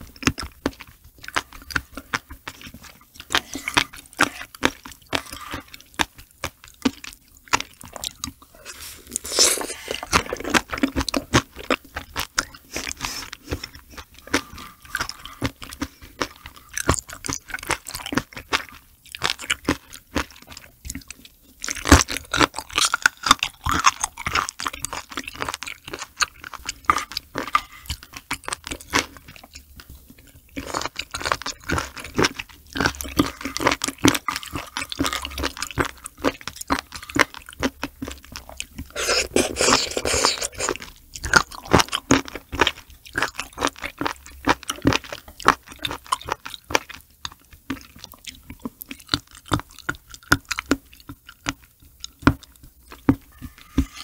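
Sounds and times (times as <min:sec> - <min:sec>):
wet chewing clicks: 0:00.0 - 0:54.0.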